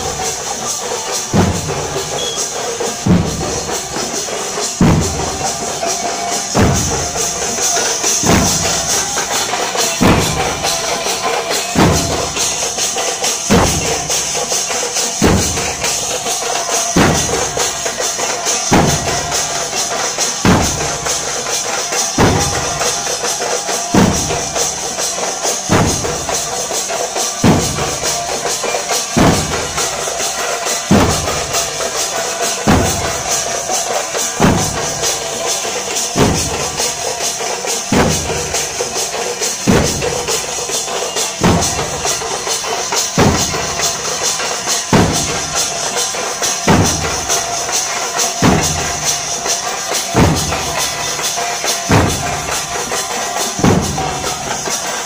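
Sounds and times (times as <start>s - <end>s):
heavy low drum beat: 0.0s - 55.0s
quick drum strokes: 0.0s - 55.0s.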